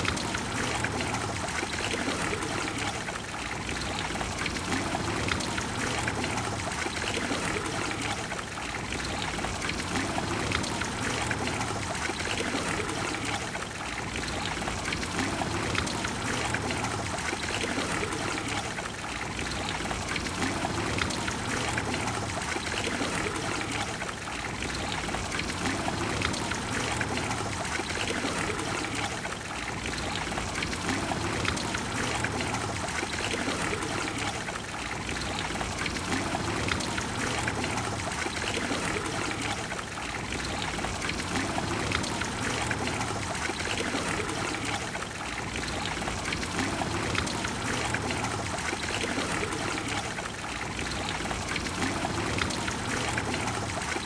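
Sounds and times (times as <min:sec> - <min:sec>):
fountain water splashing into basin: 0:00.0 - 0:54.0.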